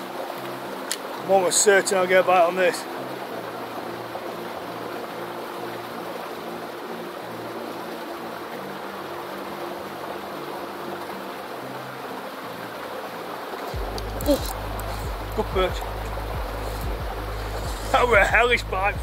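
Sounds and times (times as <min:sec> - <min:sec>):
soft background music: 0:00.0 - 0:19.0
steady outdoor hiss: 0:00.0 - 0:19.0.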